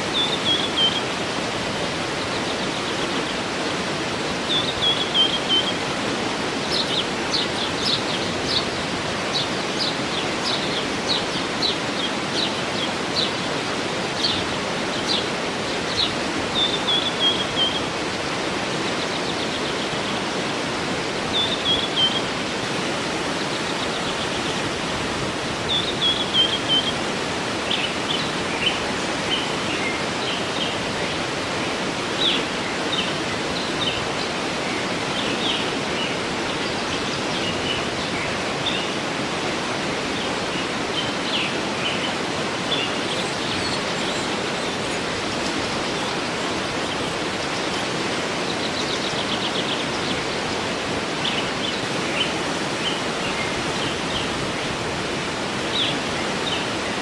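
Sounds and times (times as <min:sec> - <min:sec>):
small birds chirping: 0:00.0 - 0:31.3, 0:32.1 - 0:39.0, 0:40.1 - 0:54.8
waterfall rushing: 0:00.0 - 0:57.0.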